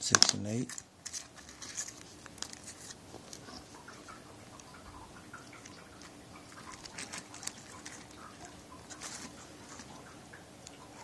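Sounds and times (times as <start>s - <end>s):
faint steady hum: 0.0s - 11.0s
wires rustling: 0.0s - 11.0s.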